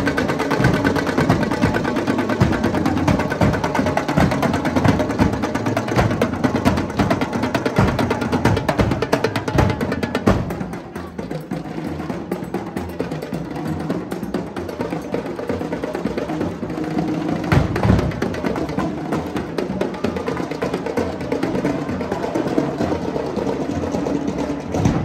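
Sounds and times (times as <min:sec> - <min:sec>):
drumline playing: 0:00.0 - 0:25.0.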